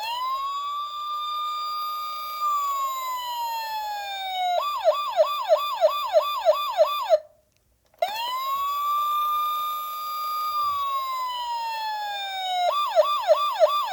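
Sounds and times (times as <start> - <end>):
police car siren wailing and yelping: 0.0 - 7.2, 8.0 - 13.9.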